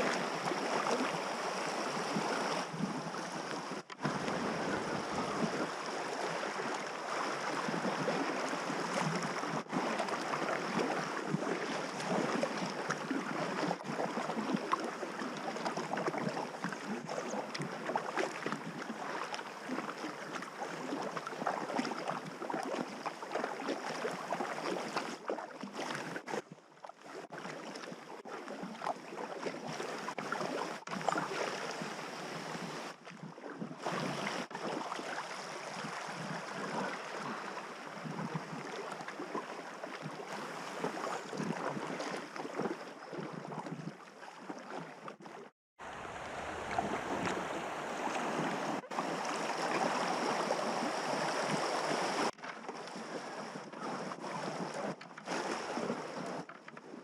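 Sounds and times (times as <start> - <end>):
river water rushing and splashing: 0.0 - 26.4, 28.7 - 33.0, 33.8 - 56.4.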